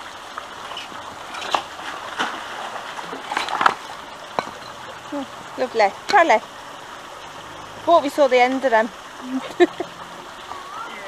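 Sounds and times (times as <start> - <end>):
running water rushing: 0.0 - 11.0
water sloshing and splashing: 0.0 - 11.0.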